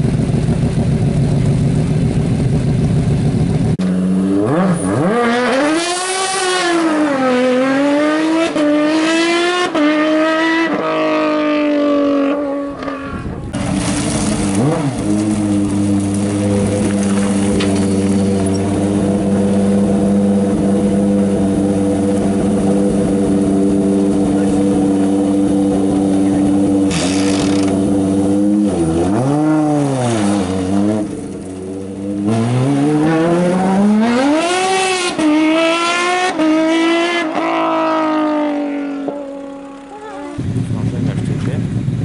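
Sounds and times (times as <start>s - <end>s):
racing car engine revving: 3.5s - 41.9s.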